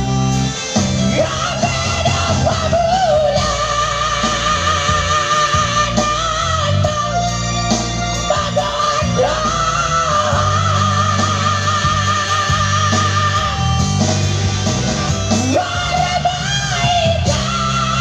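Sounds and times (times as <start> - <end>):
person singing with vibrato: 0.0 - 14.4, 15.0 - 18.0
guitar: 0.0 - 18.0
steady bass line: 0.0 - 18.0.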